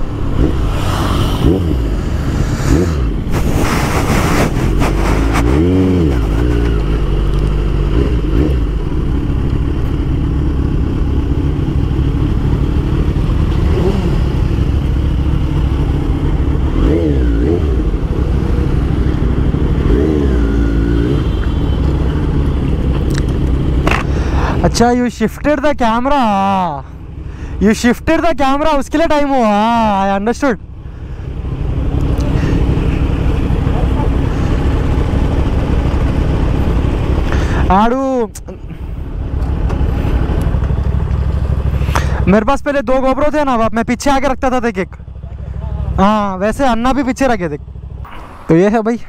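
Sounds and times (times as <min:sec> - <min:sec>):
motorcycle engine at speed: 0:00.0 - 0:24.8, 0:30.6 - 0:42.3, 0:44.9 - 0:48.5.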